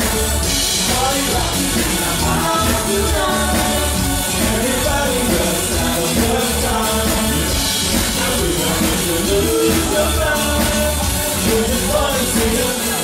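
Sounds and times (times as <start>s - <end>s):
live dance band: 0.0s - 13.0s
person singing: 0.0s - 13.0s.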